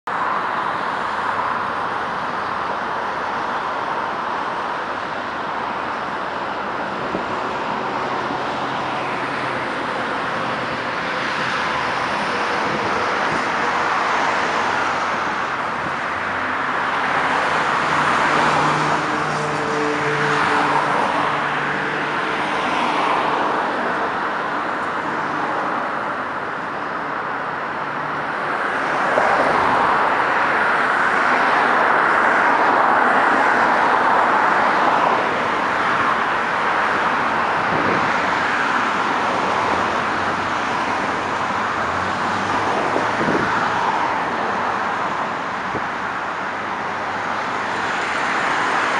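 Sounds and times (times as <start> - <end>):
expressway traffic passing: 0.0 - 48.9.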